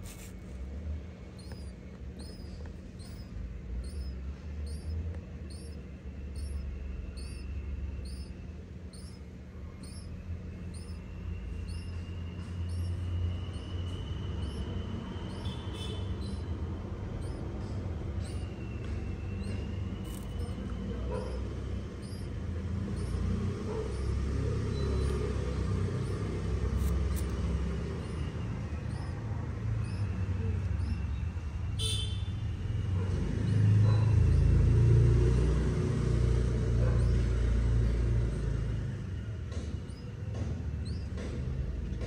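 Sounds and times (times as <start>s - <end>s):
faint bird chirps: 0.0s - 42.0s
passing vehicle engine rumble: 0.0s - 42.0s.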